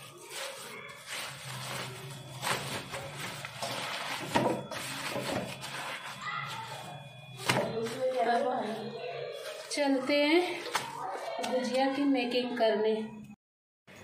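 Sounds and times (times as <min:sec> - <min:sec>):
rustling and scraping objects: 0:00.0 - 0:12.0.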